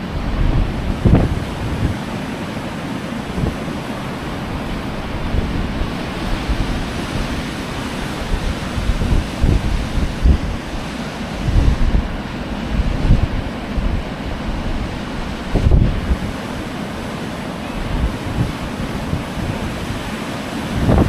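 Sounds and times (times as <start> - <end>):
ocean surf washing onto beach: 0.0 - 21.0
wind buffeting microphone: 0.0 - 21.0.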